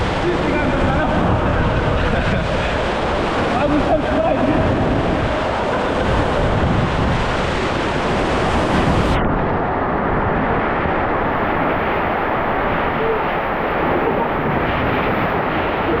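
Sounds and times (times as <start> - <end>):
body sliding down waterslide: 0.0 - 16.0
water rushing: 0.0 - 16.0.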